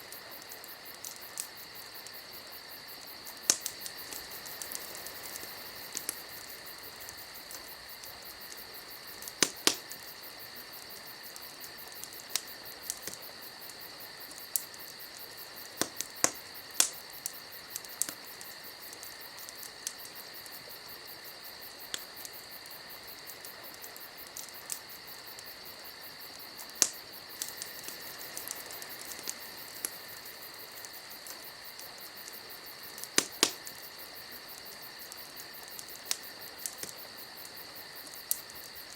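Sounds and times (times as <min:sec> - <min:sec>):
campfire pops and crackles: 0:00.0 - 0:38.9
steady high hiss: 0:00.0 - 0:38.9.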